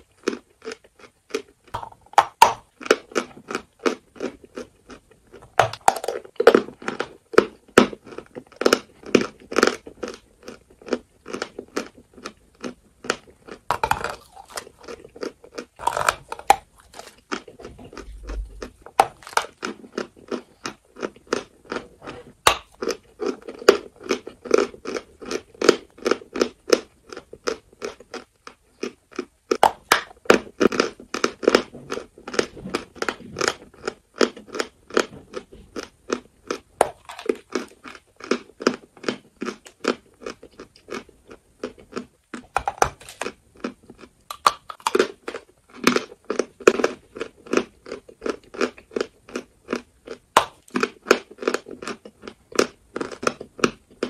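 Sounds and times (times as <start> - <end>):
chewing chalk crunches: 0.0 - 54.0.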